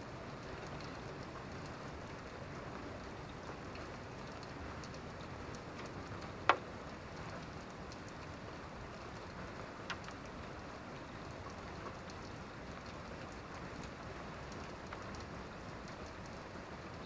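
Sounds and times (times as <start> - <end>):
steady rain falling: 0.0 - 17.0
close drips ticking: 0.3 - 17.0.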